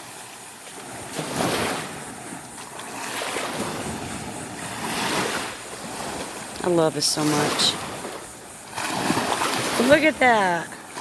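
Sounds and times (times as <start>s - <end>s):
surf breaking on beach: 0.0s - 11.0s
wind buffeting microphone: 0.9s - 11.0s.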